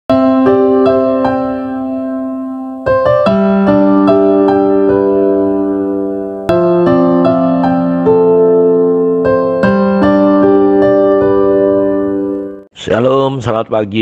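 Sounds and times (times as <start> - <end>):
electric piano chords: 0.1 - 12.7.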